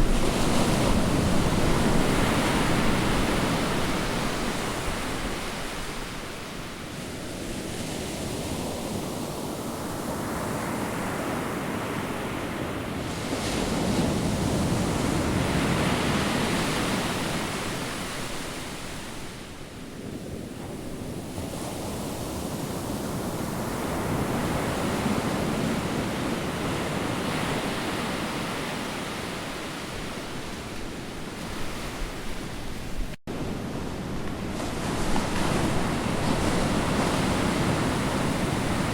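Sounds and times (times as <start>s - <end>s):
wind buffeting microphone: 0.0s - 10.9s, 12.6s - 38.9s
ocean surf breaking: 0.0s - 19.6s, 20.2s - 38.9s.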